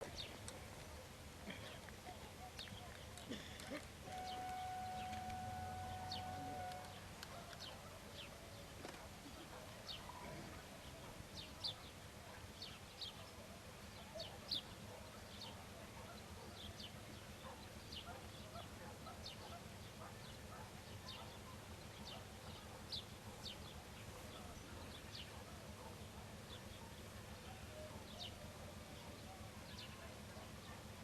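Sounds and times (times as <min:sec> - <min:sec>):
faint low hum: 0:00.0 - 0:31.0
small birds chirping: 0:00.0 - 0:31.0.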